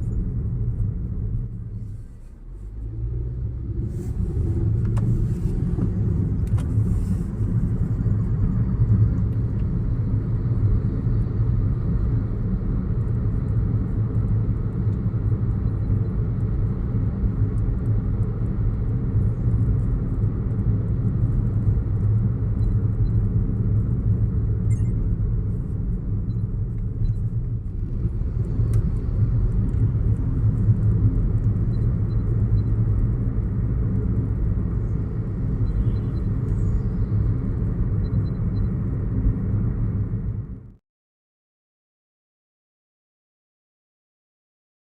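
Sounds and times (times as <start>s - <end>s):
car engine and tyres rumbling: 0.0s - 40.8s.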